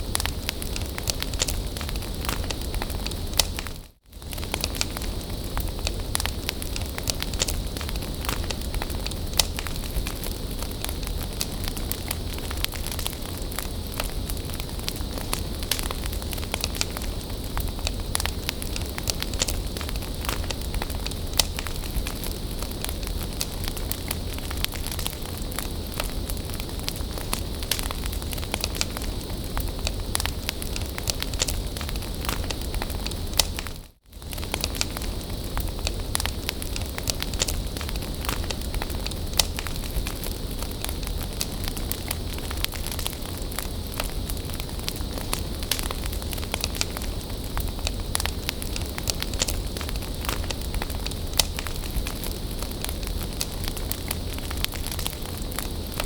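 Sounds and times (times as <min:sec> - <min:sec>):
bonfire flames hissing: 0:00.0 - 0:56.0
burning wood crackling: 0:00.0 - 0:56.0.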